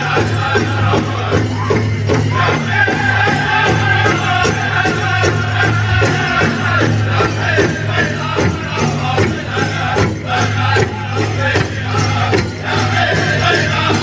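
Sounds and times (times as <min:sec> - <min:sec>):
group singing: 0:00.0 - 0:14.0
steady drumbeat: 0:00.0 - 0:14.0.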